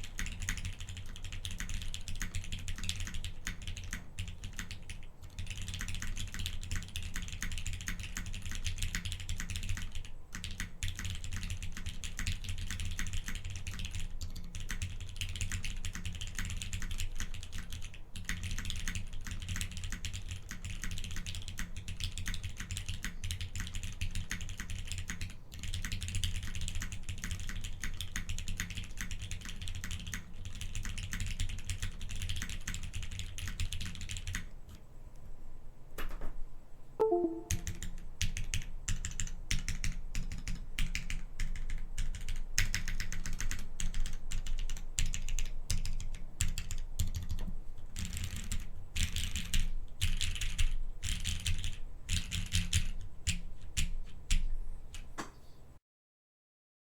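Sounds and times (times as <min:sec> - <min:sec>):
fast typing on mechanical keyboard: 0:00.0 - 0:34.5, 0:37.8 - 0:55.1.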